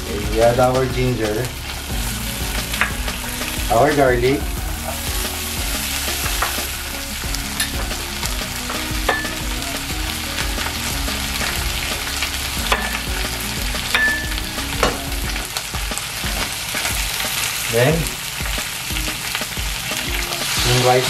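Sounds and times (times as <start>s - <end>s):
meat sizzling in hot fat: 0.0s - 21.0s.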